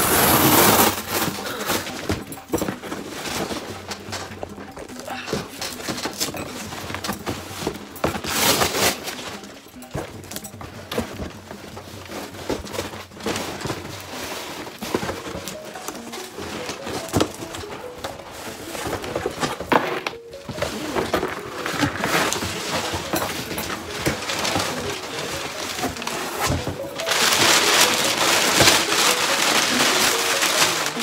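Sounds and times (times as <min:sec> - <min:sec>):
packing paper rustling: 0:00.0 - 0:31.0.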